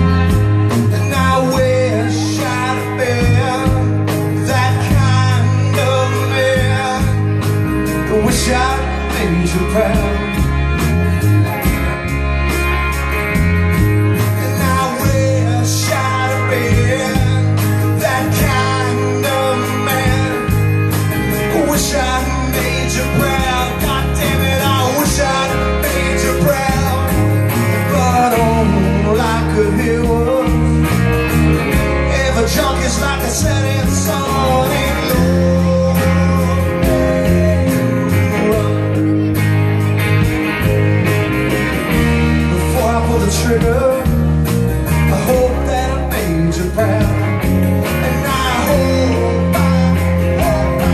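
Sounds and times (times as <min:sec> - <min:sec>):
bass: 0:00.0 - 0:50.9
electric guitar: 0:00.0 - 0:50.9
live band playing: 0:00.0 - 0:50.9
steady drum beat: 0:00.0 - 0:50.9.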